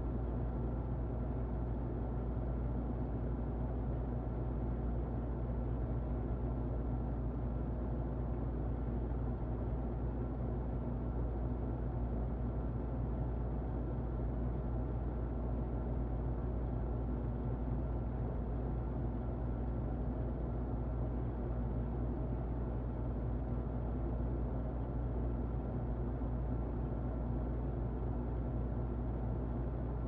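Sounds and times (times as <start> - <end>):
muffled electric fan running: 0.0 - 30.0.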